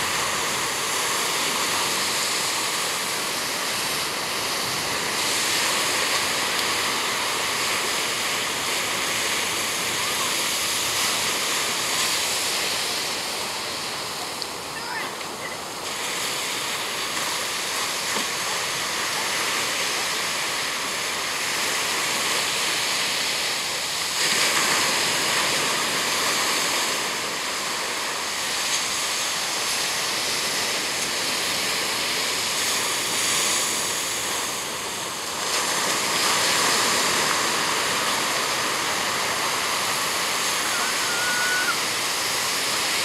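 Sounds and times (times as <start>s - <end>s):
ocean surf washing up beach: 0.0s - 43.0s.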